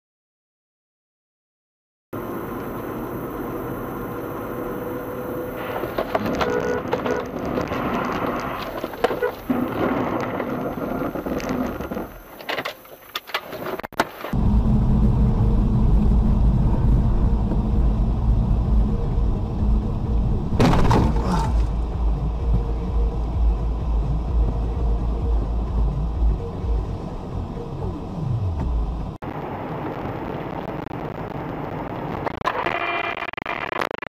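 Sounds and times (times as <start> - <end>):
car road and engine noise: 2.2 - 33.6.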